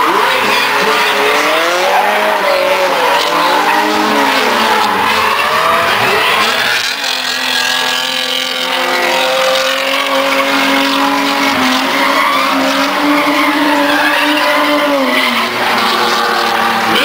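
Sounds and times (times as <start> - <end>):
car engine at high revs: 0.0 - 17.0
tyre squeal: 0.0 - 17.0.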